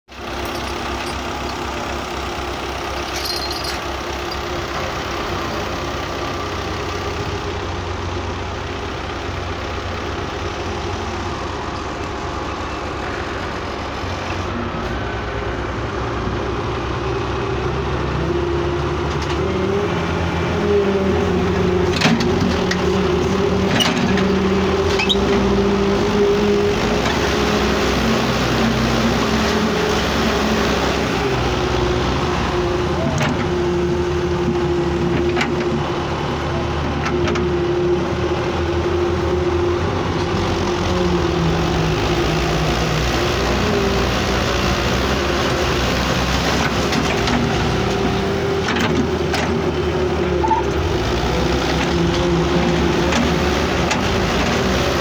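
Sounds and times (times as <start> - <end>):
diesel tractor engines running: 0.1 - 55.0.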